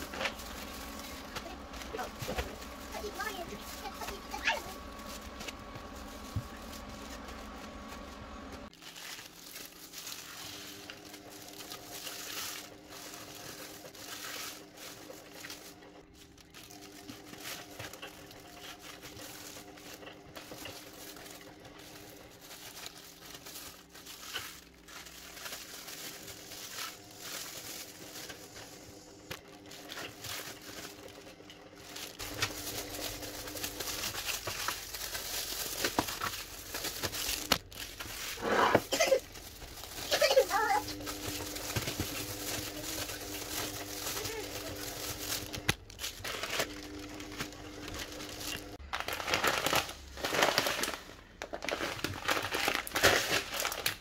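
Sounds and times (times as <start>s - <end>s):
plastic bags crinkling: 0.0s - 54.0s
plastic gloves rustling: 0.0s - 54.0s.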